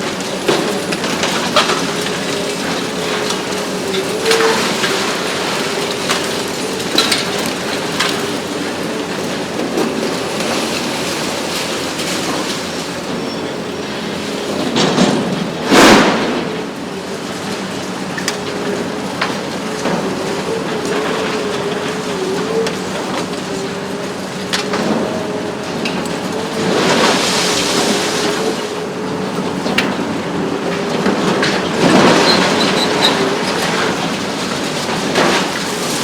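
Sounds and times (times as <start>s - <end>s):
excavator engine and hydraulic drone: 0.0s - 36.0s.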